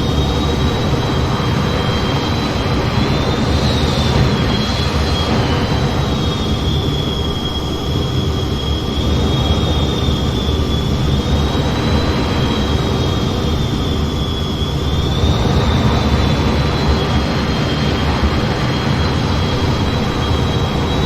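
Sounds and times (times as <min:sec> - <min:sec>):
high-pitched engine tones: 0:00.0 - 0:21.0
jet engine rumble in flight: 0:00.0 - 0:21.0.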